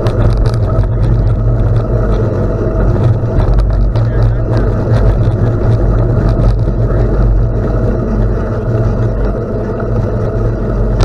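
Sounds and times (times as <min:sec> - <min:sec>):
bicycle tyres rolling over gravel: 0:00.0 - 0:11.0
wind on microphone: 0:00.0 - 0:11.0.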